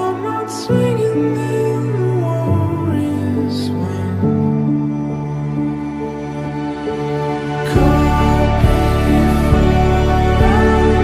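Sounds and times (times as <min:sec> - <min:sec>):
soft slow background music: 0:00.0 - 0:11.0.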